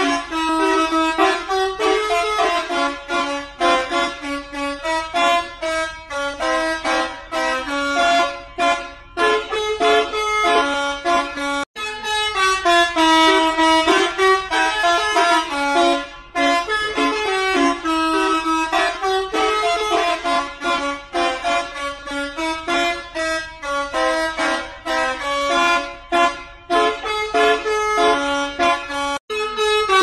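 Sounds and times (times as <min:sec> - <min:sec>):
multi-tone air horn melody: 0:00.0 - 0:30.0.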